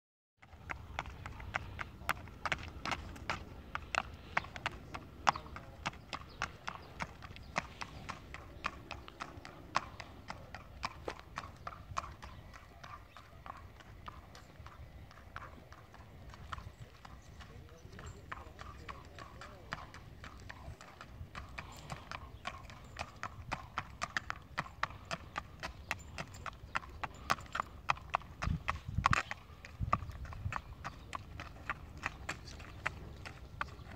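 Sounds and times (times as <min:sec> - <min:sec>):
hooves clip-clopping on asphalt: 0:00.4 - 0:33.9.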